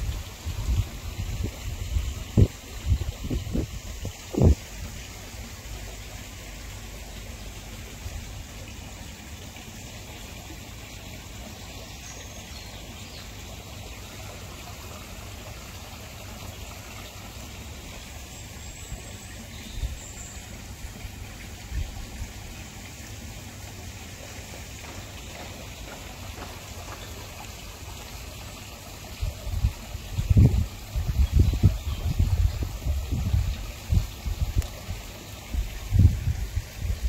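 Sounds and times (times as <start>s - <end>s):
water trickling in a pond: 0.0s - 37.0s.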